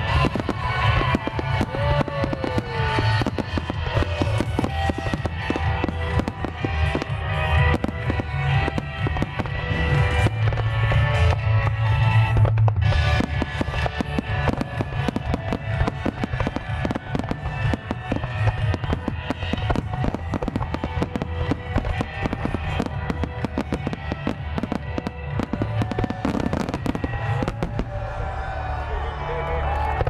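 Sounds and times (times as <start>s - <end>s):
fireworks bursting and crackling: 0.0s - 28.6s
music playing: 0.0s - 30.0s.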